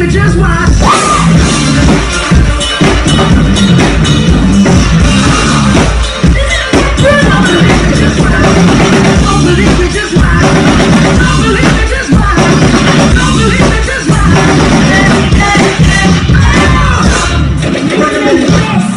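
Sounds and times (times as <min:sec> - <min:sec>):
bass guitar: 0:00.0 - 0:18.9
drum kit: 0:00.0 - 0:18.9
live rock band music: 0:00.0 - 0:18.9.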